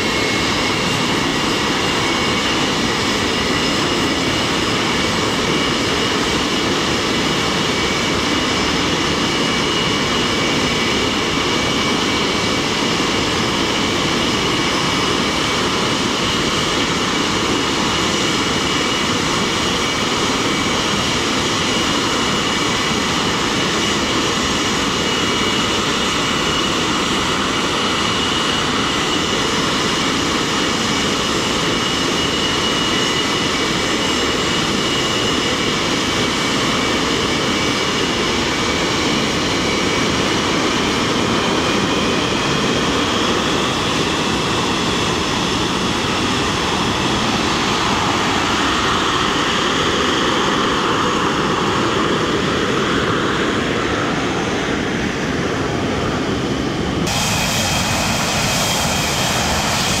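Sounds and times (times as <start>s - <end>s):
jet engines running: 0.0s - 60.0s.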